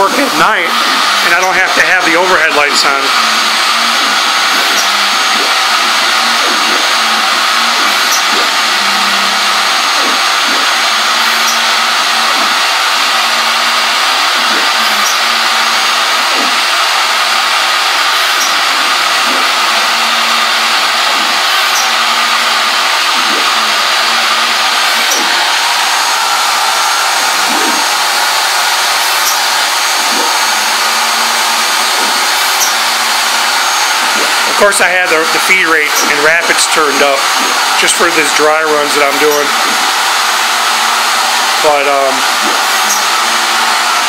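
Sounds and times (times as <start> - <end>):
router loud whirring: 0.0 - 44.0
stepper motors whining: 0.0 - 44.0.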